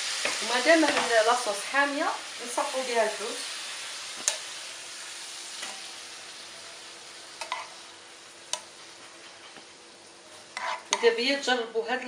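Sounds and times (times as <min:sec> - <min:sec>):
sauce sizzling: 0:00.0 - 0:11.5.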